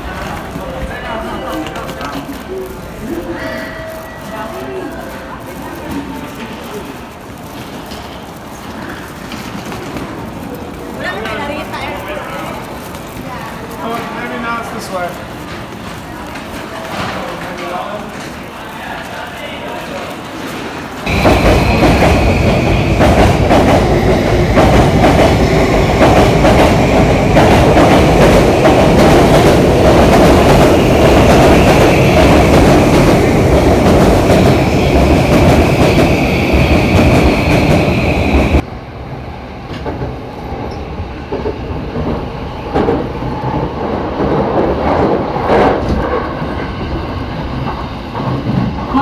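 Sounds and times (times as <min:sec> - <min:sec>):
train rumbling and clattering: 0:00.0 - 0:49.0.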